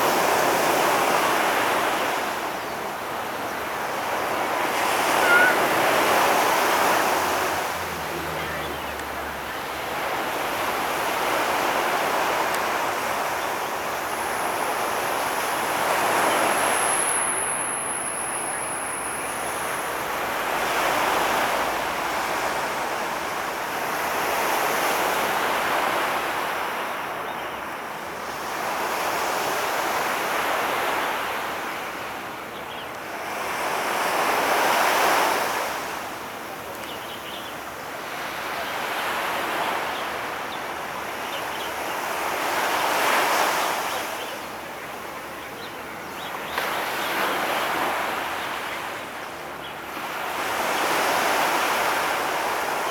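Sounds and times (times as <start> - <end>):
sea waves washing onto shore: 0.0 - 27.1, 33.0 - 45.1, 46.4 - 52.9.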